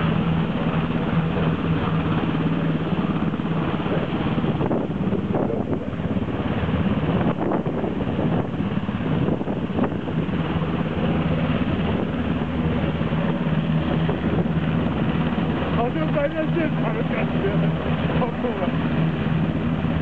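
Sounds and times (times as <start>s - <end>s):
helicopter engine hum: 0.0s - 20.0s
helicopter rotor chop: 0.0s - 20.0s.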